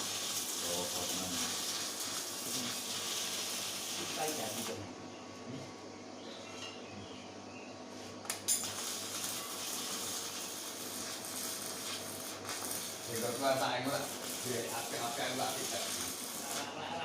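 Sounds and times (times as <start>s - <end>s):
low workshop background noise: 0.0s - 17.0s.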